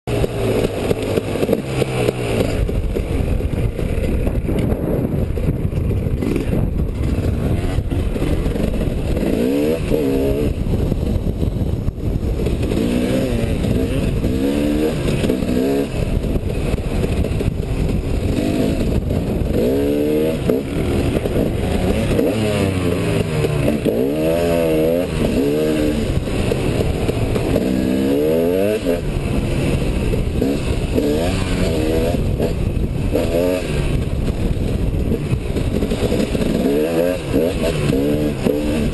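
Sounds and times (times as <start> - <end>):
motorcycle engine revving: 0.0 - 38.9
rushing wind: 0.0 - 38.9.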